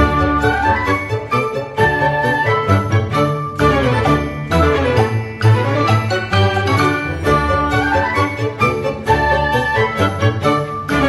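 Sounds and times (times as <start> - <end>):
upbeat instrumental music with strings: 0.0 - 11.0.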